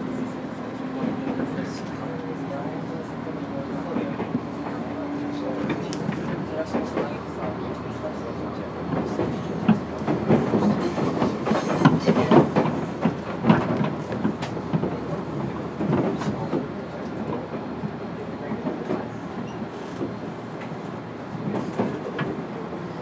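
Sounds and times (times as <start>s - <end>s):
train rolling rumble: 0.0s - 23.0s.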